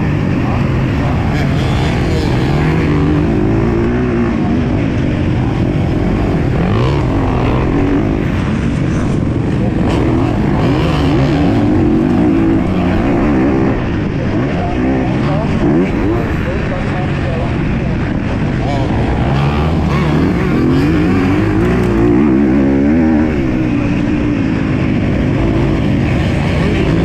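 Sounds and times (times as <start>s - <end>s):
dirt bike engine revving: 0.0s - 17.2s, 18.0s - 27.0s.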